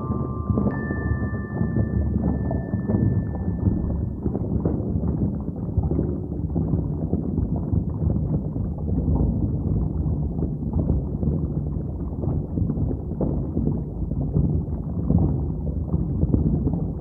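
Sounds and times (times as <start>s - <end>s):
muffled underwater rumble and sloshing: 1.4s - 17.0s.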